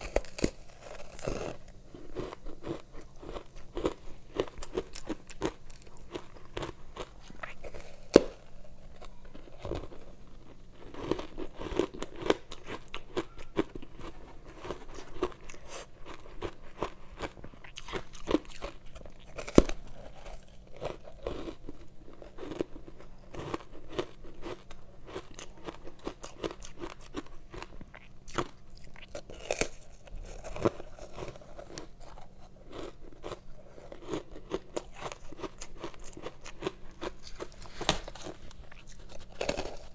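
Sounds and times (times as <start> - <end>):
chewing ice crunches: 0.0 - 39.9.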